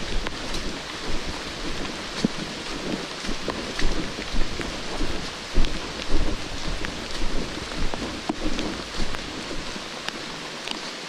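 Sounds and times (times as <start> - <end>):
rain on foliage: 0.0 - 11.0.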